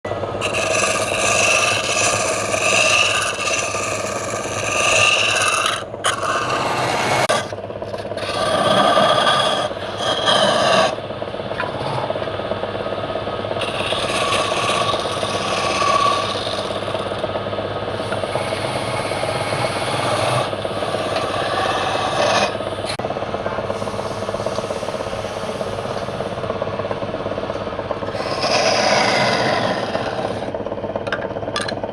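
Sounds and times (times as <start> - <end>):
wood lathe running: 0.1 - 31.9
turning tool scraping wood: 0.4 - 11.0, 11.6 - 12.2, 13.6 - 17.3, 17.9 - 26.5, 28.0 - 30.6.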